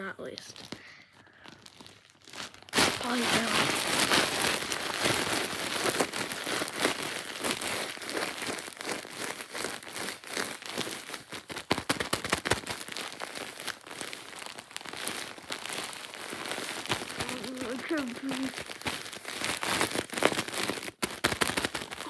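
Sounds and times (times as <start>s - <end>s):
crinkling and crackling: 0.1s - 22.0s.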